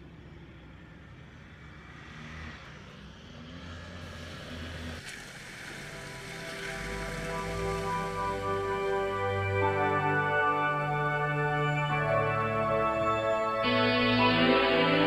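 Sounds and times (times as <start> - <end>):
vehicle engine revving uphill: 0.8 - 15.0.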